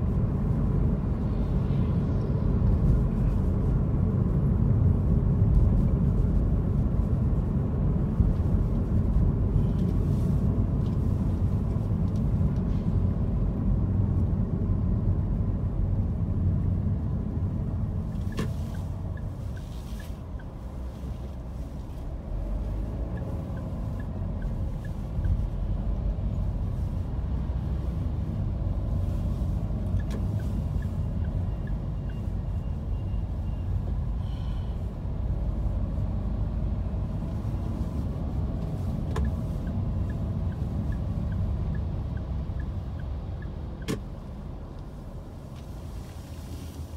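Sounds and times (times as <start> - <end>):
car interior rumble: 0.0 - 46.9.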